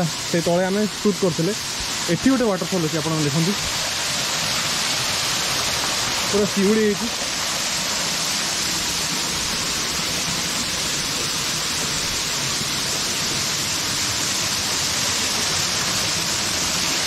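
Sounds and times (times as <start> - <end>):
small waterfall pouring: 0.0 - 17.0.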